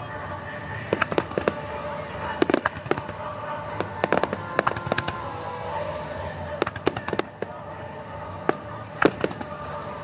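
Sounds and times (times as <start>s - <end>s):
fireworks bangs: 0.7s - 10.0s.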